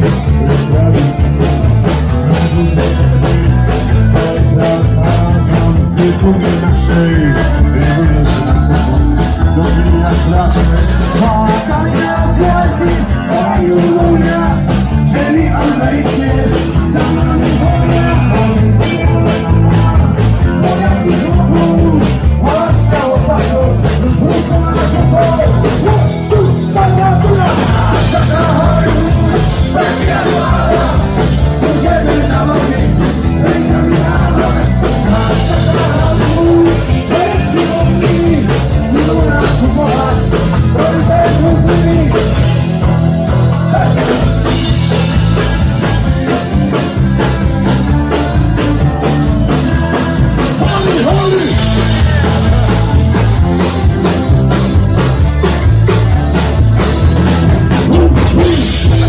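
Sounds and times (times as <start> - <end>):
distorted guitar: 0.0 - 59.0
fast drum beat: 0.0 - 59.0
person singing: 0.0 - 59.0.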